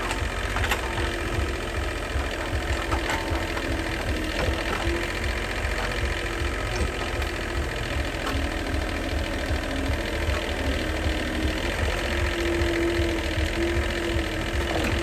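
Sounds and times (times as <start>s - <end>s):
motor-driven machine running: 0.0s - 15.0s.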